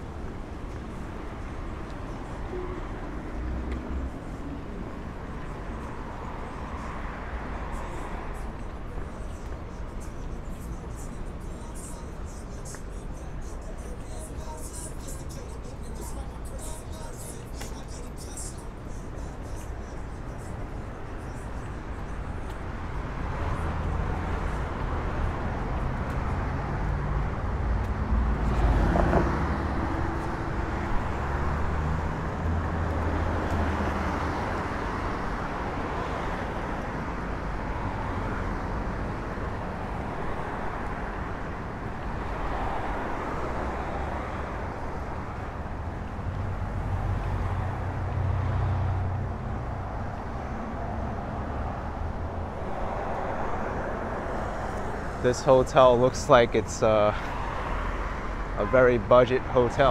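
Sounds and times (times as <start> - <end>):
car engines and tyre noise: 0.0 - 59.9
vehicles passing: 0.0 - 59.9.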